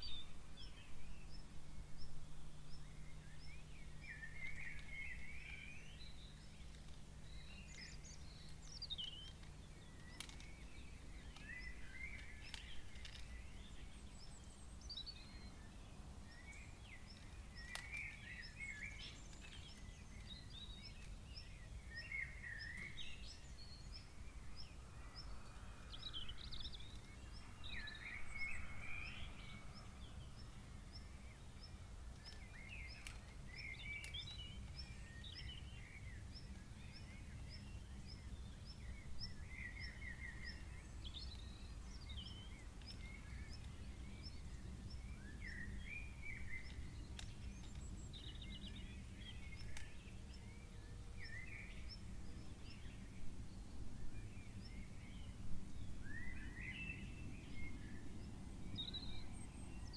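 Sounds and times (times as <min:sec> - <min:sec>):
birds calling: 0:00.0 - 0:59.9.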